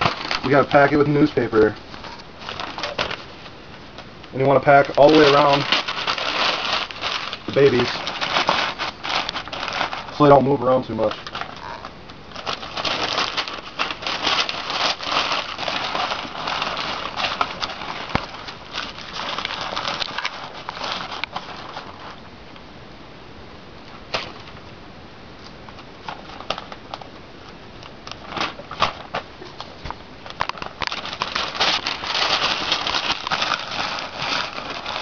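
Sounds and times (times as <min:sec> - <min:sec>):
newspaper rustling and crinkling: 0:00.0 - 0:22.3, 0:25.4 - 0:35.0.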